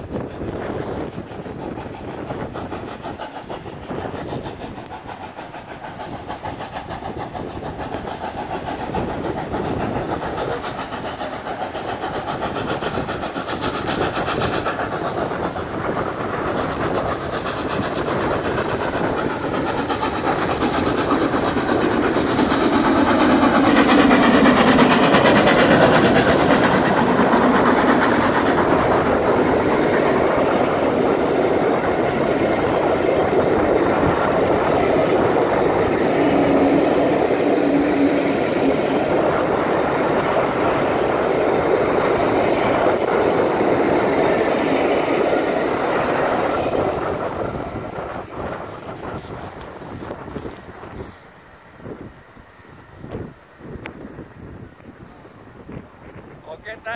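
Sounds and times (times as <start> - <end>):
steam locomotive exhaust beats: 0.0 - 56.9
train wheels on rails: 0.0 - 56.9.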